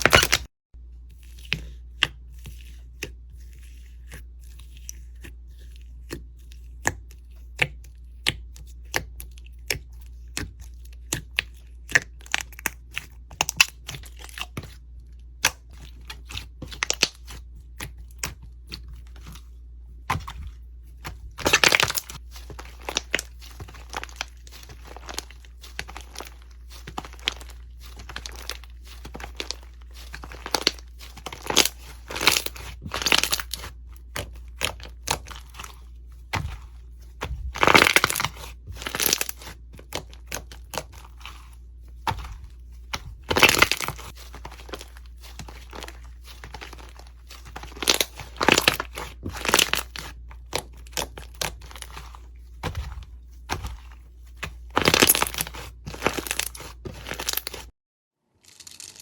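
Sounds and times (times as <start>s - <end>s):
crunchy slime crackling: 10.4s - 57.7s.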